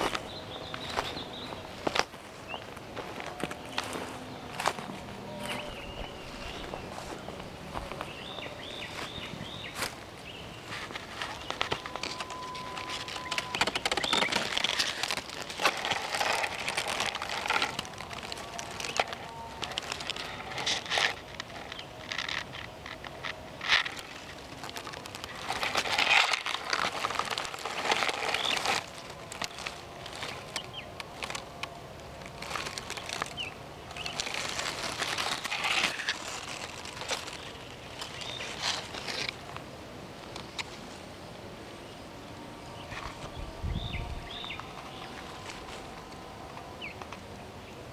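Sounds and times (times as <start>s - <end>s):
rustling and crackling: 0.0s - 41.0s.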